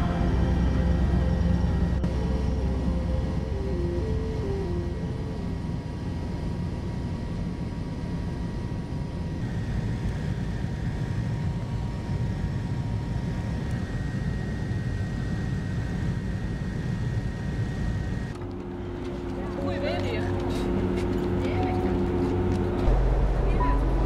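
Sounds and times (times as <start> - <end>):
aircraft cabin engine drone: 0.0 - 24.0
high engine whine: 0.0 - 24.0.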